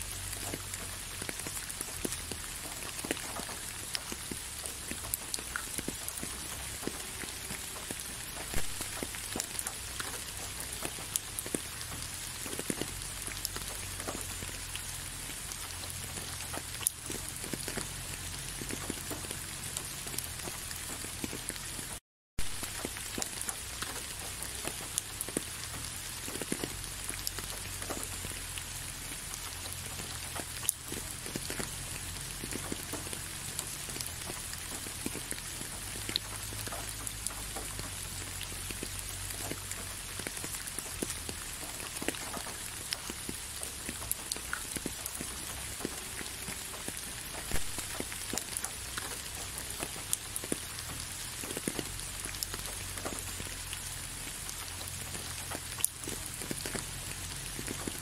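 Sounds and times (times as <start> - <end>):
rain with drops ticking: 0.0 - 58.0.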